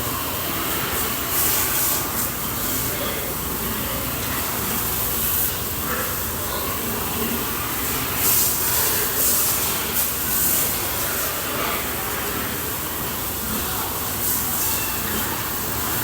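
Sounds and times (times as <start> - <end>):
water spraying from hose: 0.0 - 16.0.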